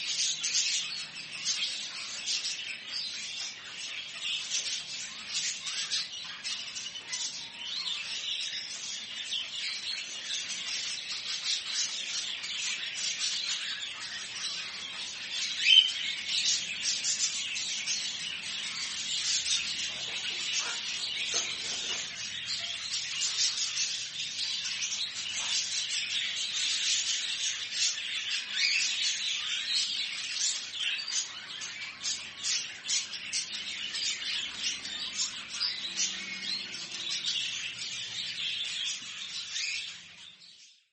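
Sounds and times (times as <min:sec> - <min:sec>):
caged birds chirping and squawking: 0:00.0 - 0:40.9.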